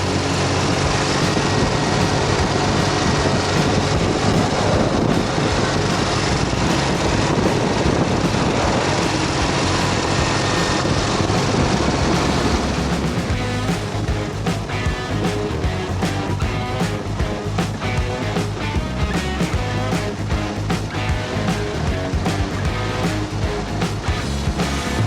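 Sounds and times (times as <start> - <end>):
motorcycle engine running: 0.0 - 25.0
road noise: 0.0 - 25.0
wind noise: 0.0 - 25.0.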